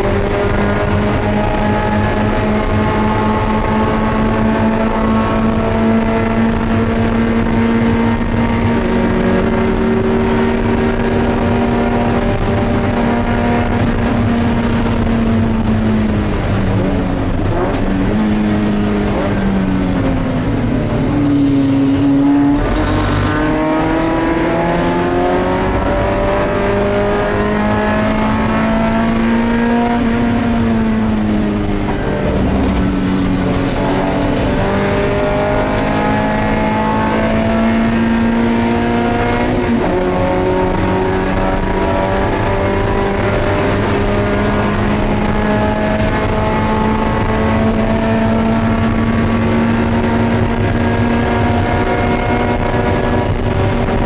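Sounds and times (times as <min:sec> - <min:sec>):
racing car engine: 0:00.0 - 0:54.0.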